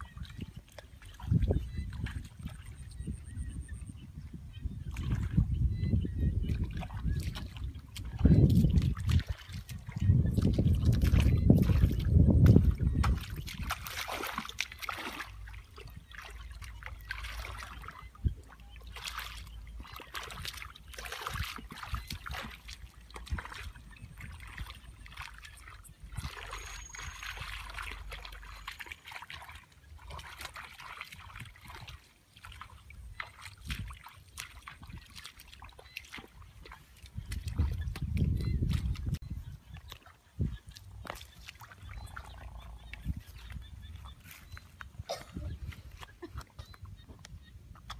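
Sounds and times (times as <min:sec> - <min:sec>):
hands splashing in muddy water: 0:06.5 - 0:47.9.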